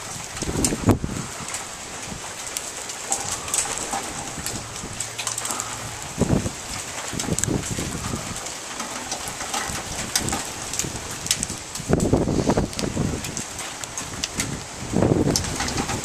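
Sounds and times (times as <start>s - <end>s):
rain falling: 0.0s - 16.0s
raindrops ticking close by: 0.0s - 16.0s.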